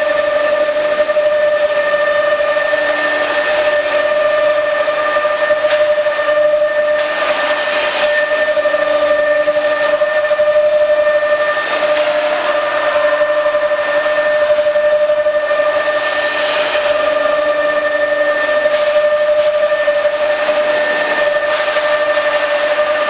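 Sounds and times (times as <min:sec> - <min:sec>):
wood router whining: 0:00.0 - 0:23.0.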